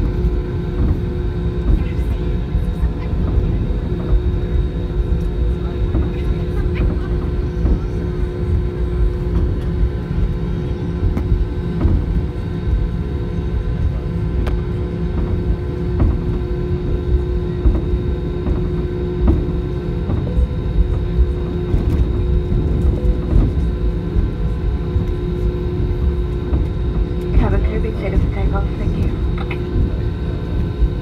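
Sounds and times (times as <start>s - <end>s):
airplane engines rumbling: 0.0s - 31.0s.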